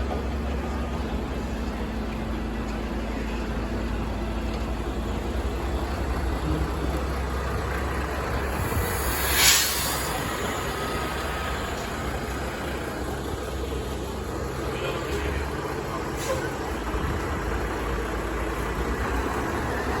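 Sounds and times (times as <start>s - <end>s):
heavy diesel engine rumbling: 0.0s - 20.0s.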